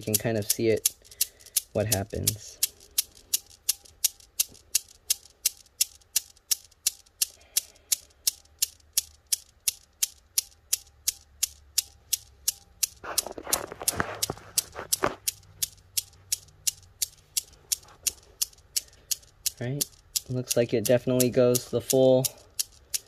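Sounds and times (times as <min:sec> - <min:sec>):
newton's cradle balls clicking: 0:00.0 - 0:23.0.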